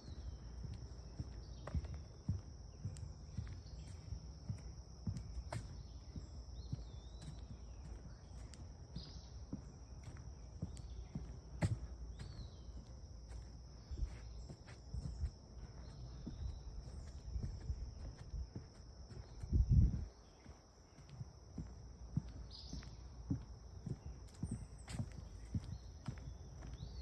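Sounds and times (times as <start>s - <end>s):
footsteps on a trail: 0.0s - 27.0s
insects droning: 0.0s - 27.0s.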